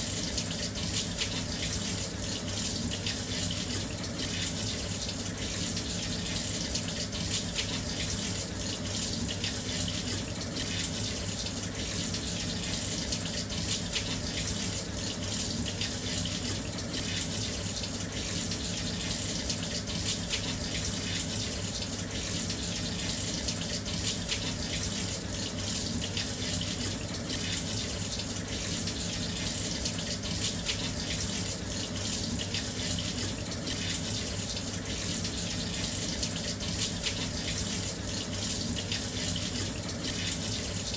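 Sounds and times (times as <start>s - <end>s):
water pouring into washing machine: 0.0s - 40.9s.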